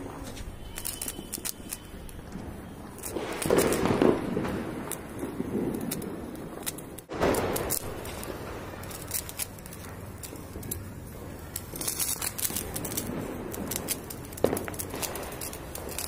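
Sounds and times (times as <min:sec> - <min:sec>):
sparkler fizzing and crackling: 0:00.0 - 0:16.0
sharp pops: 0:00.2 - 0:16.0.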